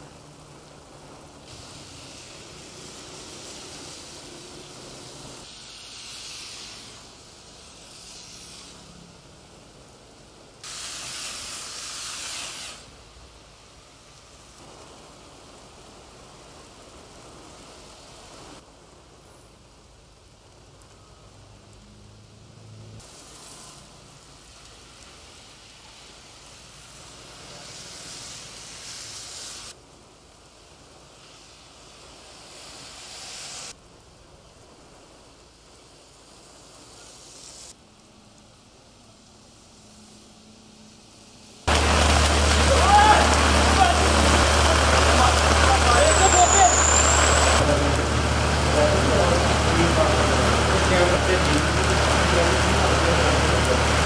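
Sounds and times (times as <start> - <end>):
heavy rain downpour: 0.0 - 54.0.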